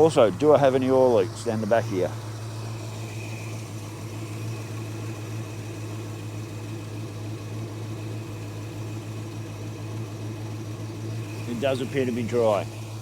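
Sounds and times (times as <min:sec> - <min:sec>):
car engine at raised idle: 0:00.0 - 0:13.0.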